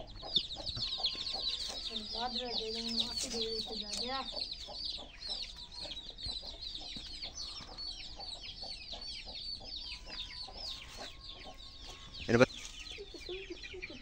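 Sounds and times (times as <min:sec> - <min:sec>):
chicks peeping: 0:00.0 - 0:14.0
hen clucking: 0:00.0 - 0:14.0.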